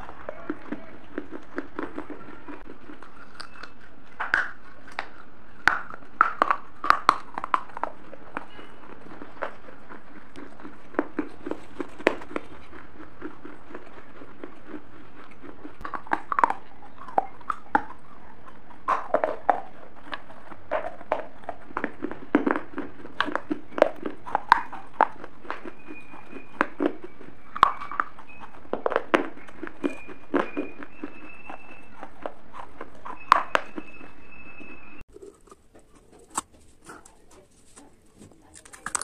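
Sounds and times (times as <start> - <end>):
crunching and chewing snack: 0.0 - 39.0.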